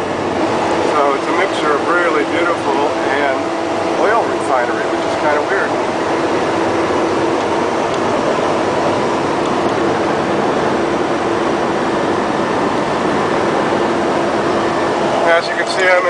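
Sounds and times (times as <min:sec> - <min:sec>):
truck road and engine noise: 0:00.0 - 0:16.0.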